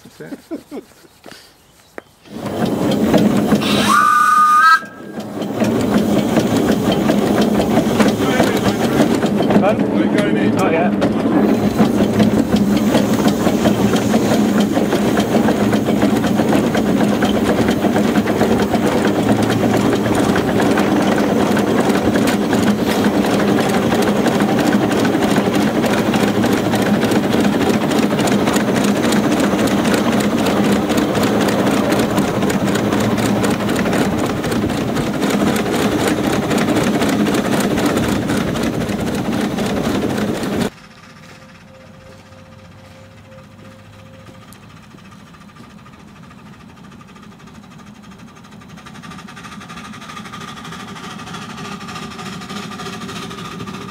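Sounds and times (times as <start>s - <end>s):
steam locomotive clattering: 2.3s - 53.9s.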